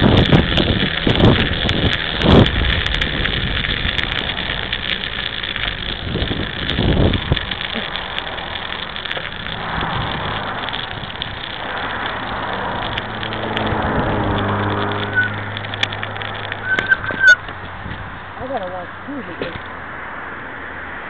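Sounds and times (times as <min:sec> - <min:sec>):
high squeaks and clicks: 0:00.0 - 0:17.8
wind on microphone: 0:00.0 - 0:18.4
bike tyre rolling over slush: 0:00.0 - 0:21.0
low engine hum: 0:00.0 - 0:21.0.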